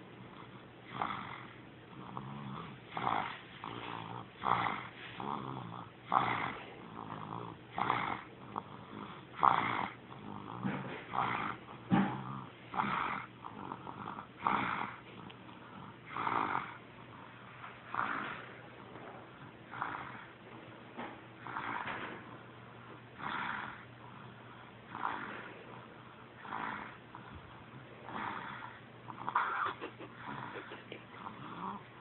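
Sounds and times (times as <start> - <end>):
baby snoring: 0.2 - 18.6, 19.3 - 20.3, 21.4 - 22.5, 23.2 - 32.0.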